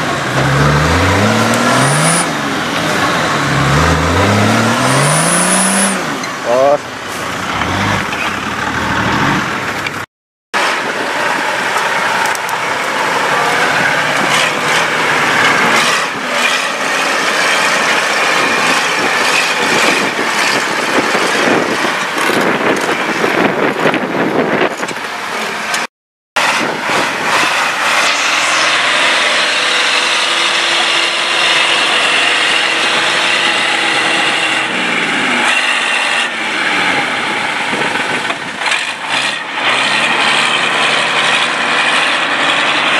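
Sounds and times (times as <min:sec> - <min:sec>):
diesel engine running hard: 0:00.0 - 0:42.9.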